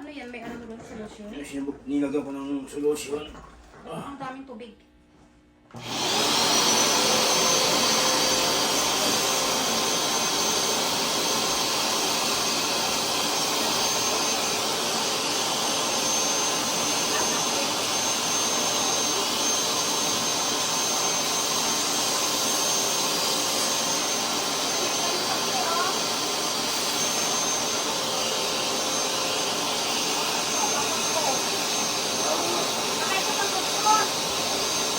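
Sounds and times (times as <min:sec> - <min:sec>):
carpet cleaner motor whining: 0:05.7 - 0:34.9.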